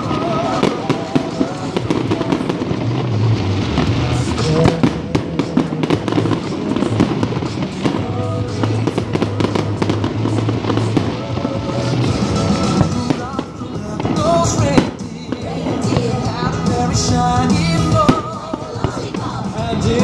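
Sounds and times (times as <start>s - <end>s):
fireworks bursting and crackling: 0.0s - 20.0s
music playing: 0.0s - 20.0s.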